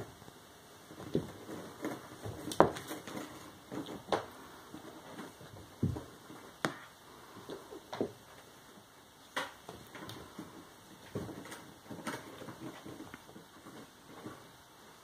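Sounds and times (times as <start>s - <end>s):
cats' paws thumping on wooden floor: 0.9s - 8.5s, 9.3s - 14.6s.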